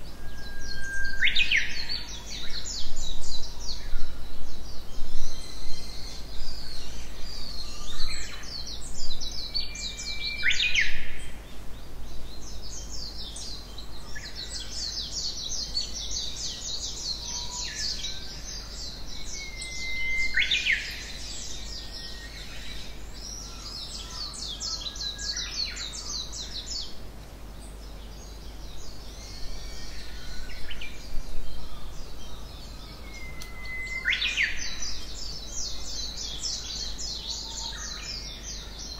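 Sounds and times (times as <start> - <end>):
songbirds trilling: 0.0 - 38.9.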